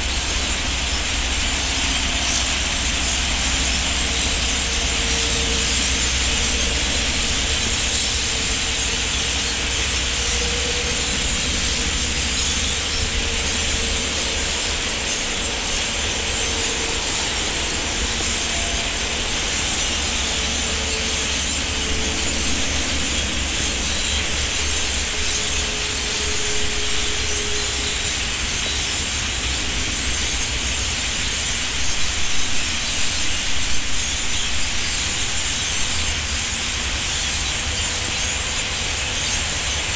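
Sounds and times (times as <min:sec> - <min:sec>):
huge flock of birds flying: 0:00.0 - 0:39.9.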